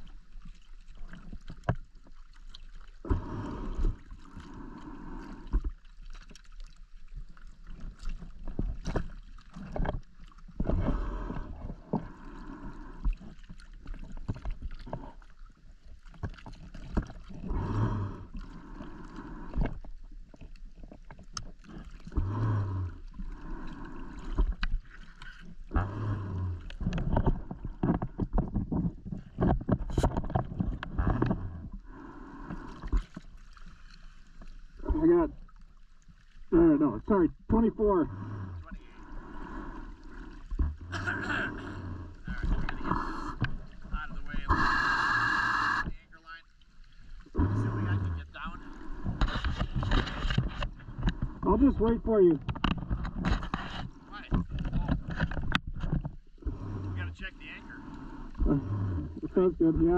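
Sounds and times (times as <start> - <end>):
water splashing and sloshing: 0.0 - 59.9.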